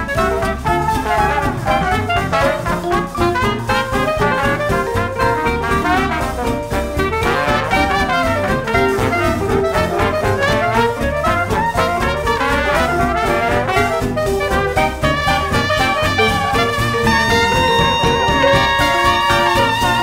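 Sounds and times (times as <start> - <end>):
jazz music with brass: 0.0 - 20.0.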